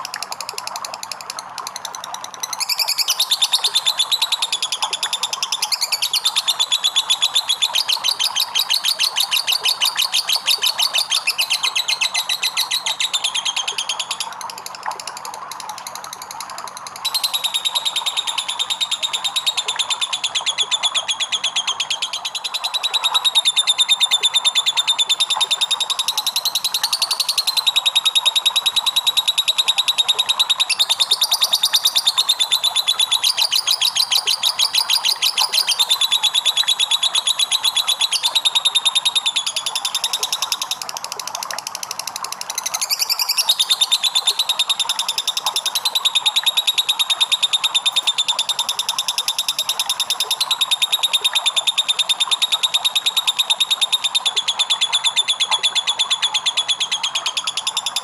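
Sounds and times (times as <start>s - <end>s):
bird chattering trill: 2.4s - 14.8s, 15.8s - 40.8s, 42.5s - 58.0s.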